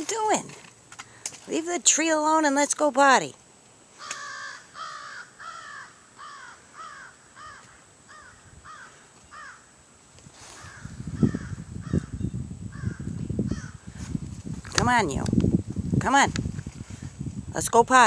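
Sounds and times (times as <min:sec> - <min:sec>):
low crunching and rustling: 0:00.0 - 0:18.0.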